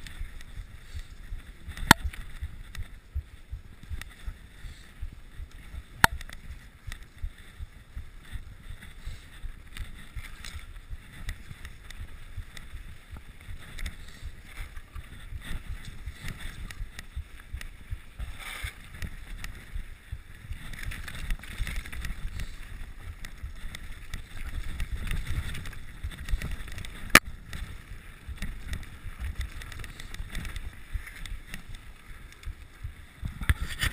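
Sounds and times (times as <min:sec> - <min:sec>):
bike rumbling and rattling over snow: 0:00.0 - 0:33.9
wind on microphone: 0:00.0 - 0:33.9.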